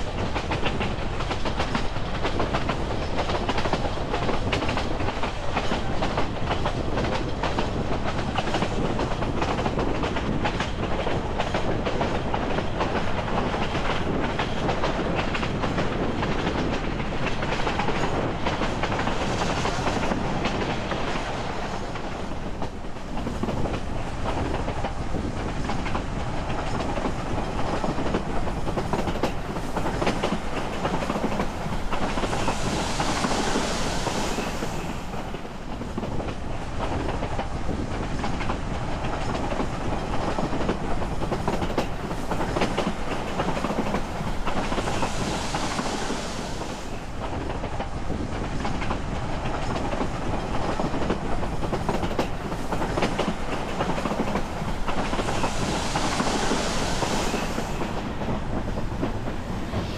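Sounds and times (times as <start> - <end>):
clacks over rail joints: 0.0 - 59.4
wheels rumbling on rail: 0.0 - 59.9.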